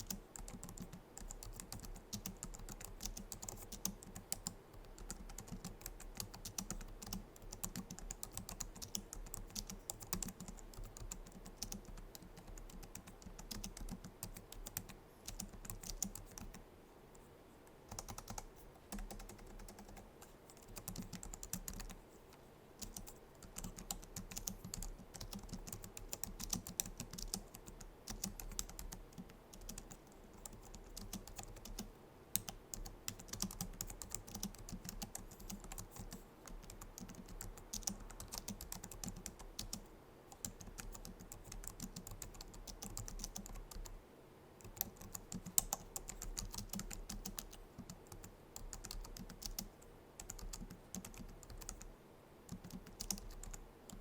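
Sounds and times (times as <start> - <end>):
keyboard typing: 0.0 - 16.6, 17.9 - 44.0, 44.6 - 51.9, 52.5 - 54.0.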